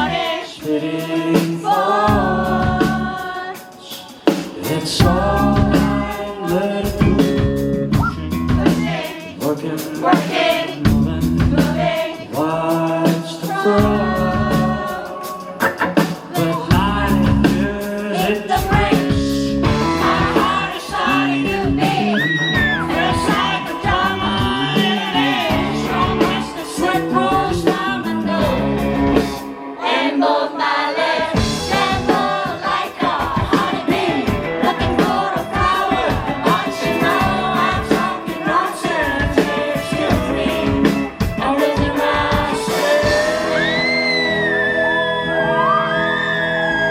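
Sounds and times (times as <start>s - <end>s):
rock band playing live: 0.0s - 29.8s, 31.2s - 46.1s
person singing: 0.0s - 46.9s.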